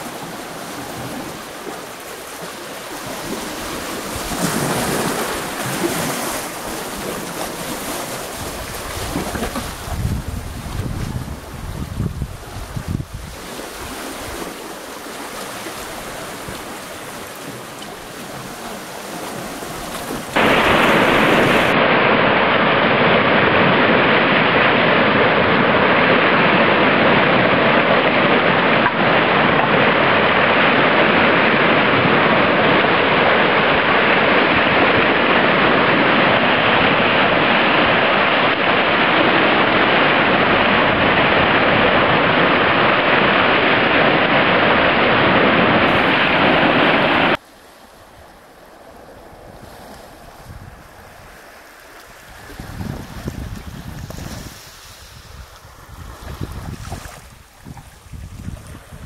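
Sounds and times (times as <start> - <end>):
surf breaking over boulders: 0.0 - 47.4
waves washing against rocks: 0.0 - 59.0.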